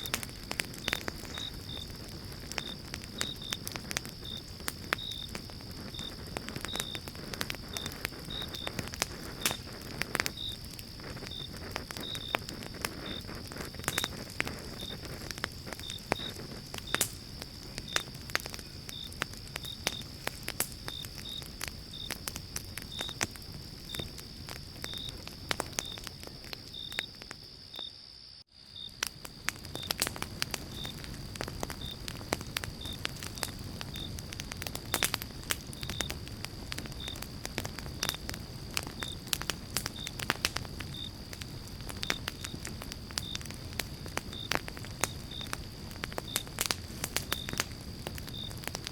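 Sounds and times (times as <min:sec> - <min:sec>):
campfire crackling and popping: 0:00.0 - 0:48.9
low rumble of flames: 0:00.0 - 0:48.9.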